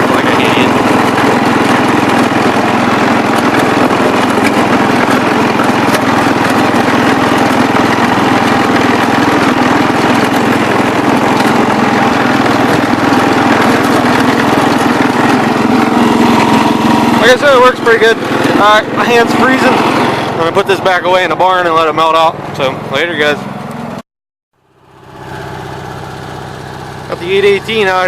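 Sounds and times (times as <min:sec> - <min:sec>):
tractor engine running: 0:00.0 - 0:24.0, 0:24.6 - 0:28.0.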